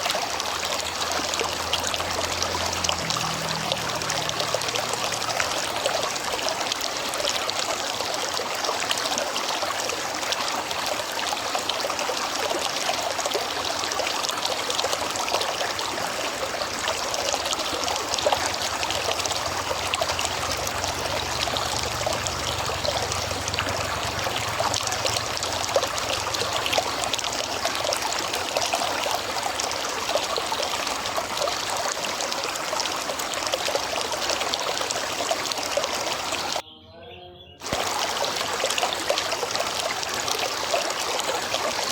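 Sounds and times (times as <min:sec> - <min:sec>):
river water flowing: 0:00.0 - 0:36.6, 0:37.6 - 0:41.9.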